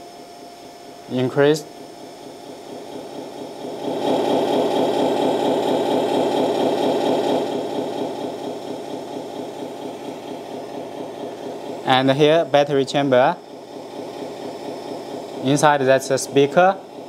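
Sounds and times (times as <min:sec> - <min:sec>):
simulated engine idle from speaker: 0:02.5 - 0:17.0.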